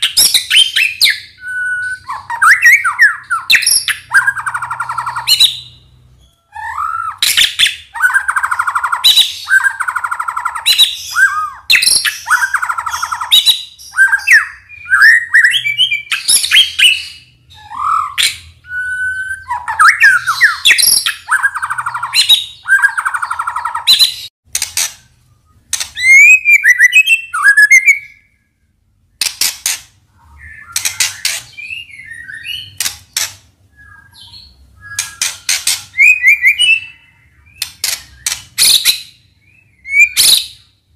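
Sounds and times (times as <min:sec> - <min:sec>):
bird singing varied song: 0:00.0 - 0:24.4, 0:25.0 - 0:40.9.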